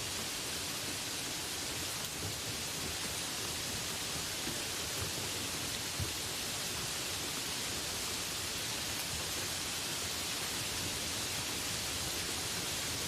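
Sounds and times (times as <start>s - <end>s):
steady rain hissing: 0.0s - 13.0s.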